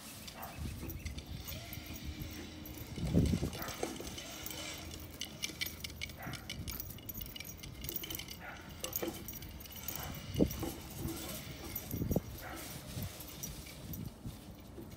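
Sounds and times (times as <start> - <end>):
metallic jingling and clinking: 0.2 - 14.9.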